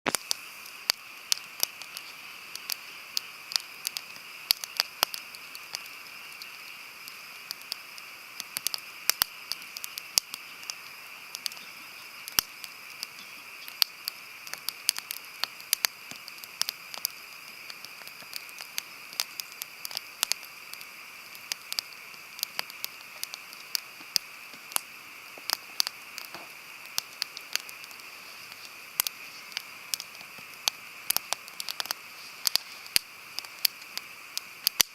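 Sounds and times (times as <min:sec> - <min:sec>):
campfire crackling: 0:00.1 - 0:34.9
high hiss: 0:00.1 - 0:34.9.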